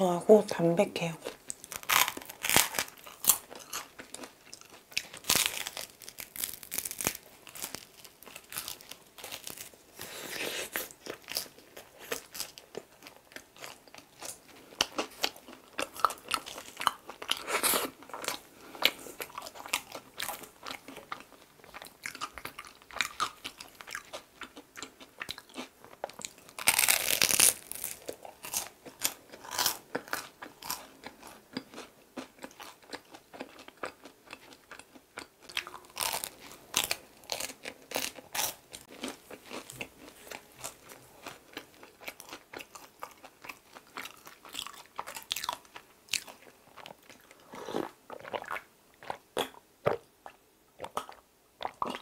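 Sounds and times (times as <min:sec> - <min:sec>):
crusty bread crunching: 0:01.3 - 0:09.8, 0:10.7 - 0:49.5.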